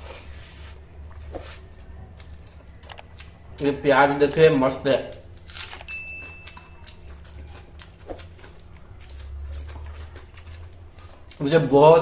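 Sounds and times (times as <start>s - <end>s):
person chewing food: 0.0s - 4.4s, 5.1s - 11.4s
steady low hum: 0.0s - 12.0s.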